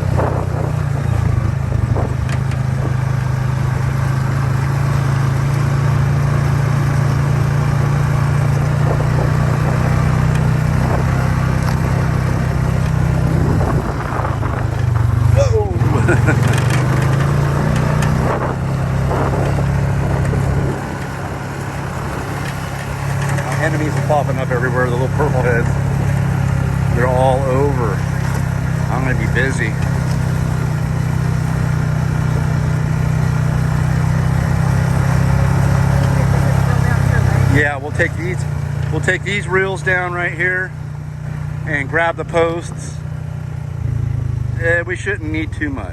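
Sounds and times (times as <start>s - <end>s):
motor engine running: 0.0s - 45.9s
faint rattles: 0.1s - 39.2s.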